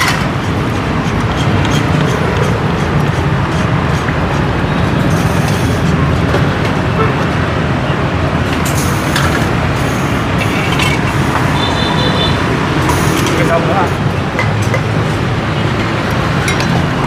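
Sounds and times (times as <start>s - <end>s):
indistinct voices: 0.0s - 17.0s
road vehicles rumbling past: 0.0s - 17.0s.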